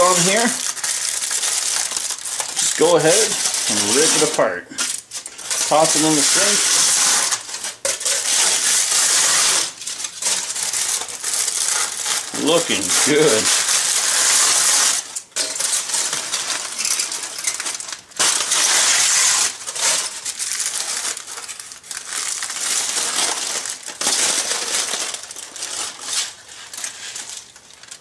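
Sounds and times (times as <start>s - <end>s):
aluminium foil crinkling: 0.0s - 28.0s.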